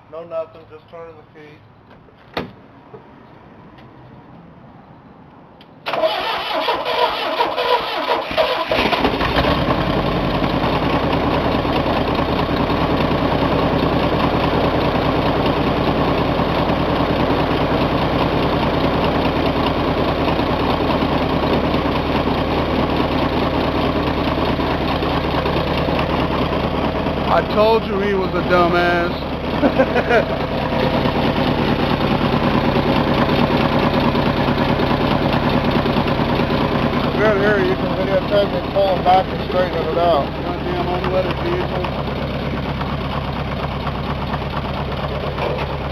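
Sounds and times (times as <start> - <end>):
engine cranking and sputtering: 5.8 - 45.9
engine idling: 5.8 - 45.9.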